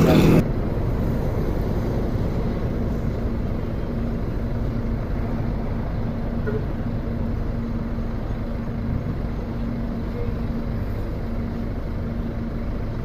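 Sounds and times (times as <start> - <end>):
coach engine running: 0.0 - 13.0.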